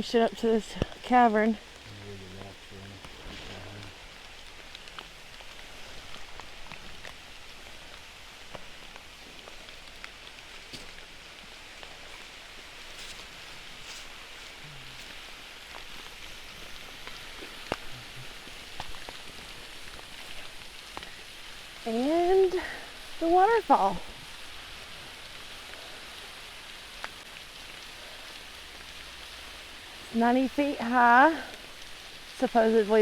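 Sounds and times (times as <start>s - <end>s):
raindrops ticking close by: 0.0s - 33.0s
steady rain hiss: 0.0s - 33.0s.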